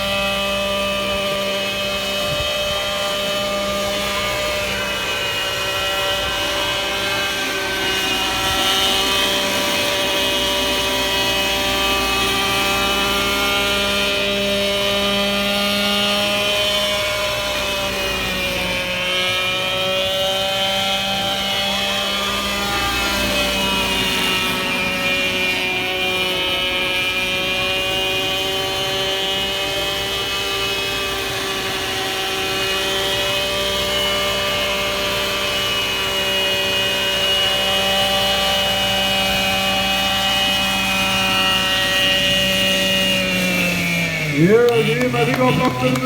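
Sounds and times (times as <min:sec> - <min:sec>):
rc helicopter engine running: 0:00.0 - 0:46.0.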